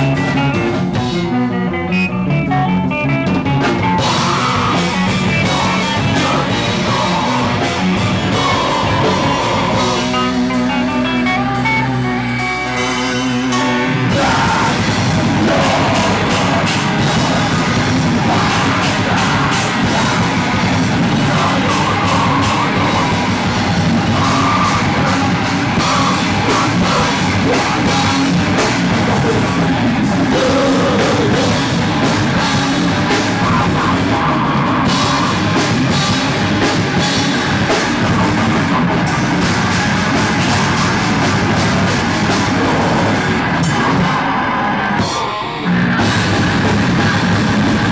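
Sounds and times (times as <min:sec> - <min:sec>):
electric guitar: 0:00.0 - 0:47.9
drum kit with cymbal hits: 0:02.4 - 0:47.9.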